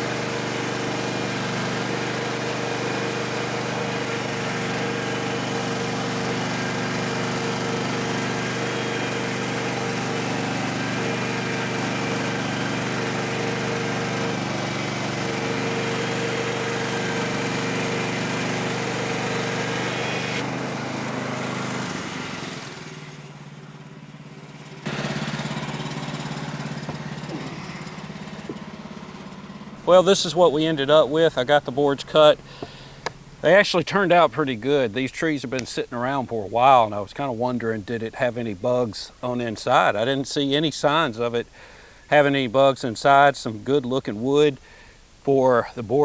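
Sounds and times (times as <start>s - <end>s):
sawmill engine running: 0.0s - 46.0s.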